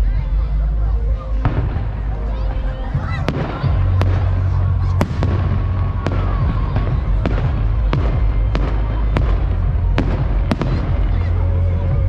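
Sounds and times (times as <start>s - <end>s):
continuous low rumble: 0.0s - 12.0s
fireworks bangs: 1.4s - 12.0s.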